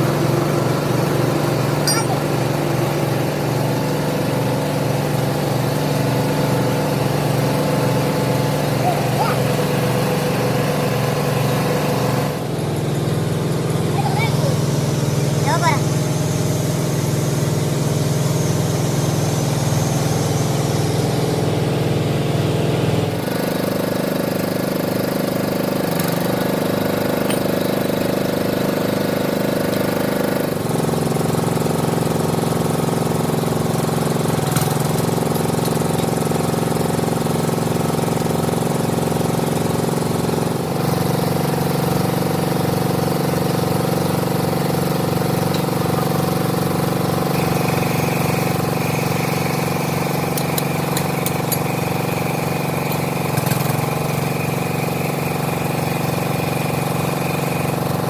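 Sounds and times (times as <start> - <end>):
workshop machinery droning: 0.0 - 58.0.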